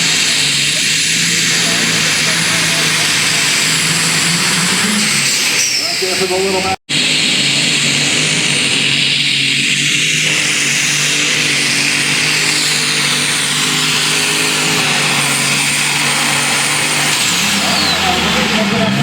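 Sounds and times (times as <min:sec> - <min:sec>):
high steady whine: 0:00.0 - 0:19.0
pulling tractor engine at full power: 0:00.0 - 0:19.0.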